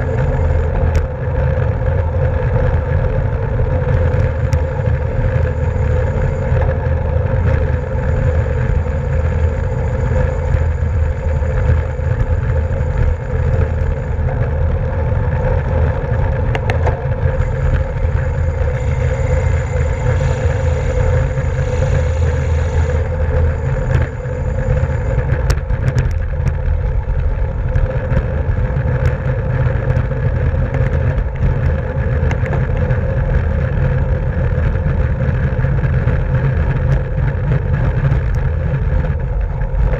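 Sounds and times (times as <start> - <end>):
steady hum: 0.0 - 39.9
wind rushing over microphone: 0.0 - 39.9.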